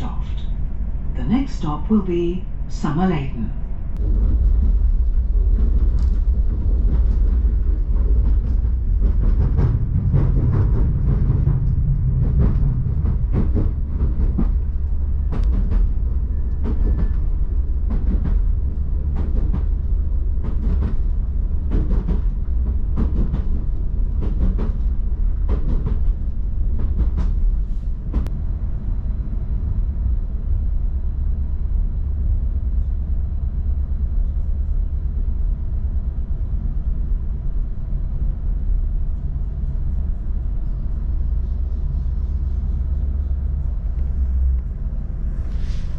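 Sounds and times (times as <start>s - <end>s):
train rumble inside carriage: 0.0s - 45.9s.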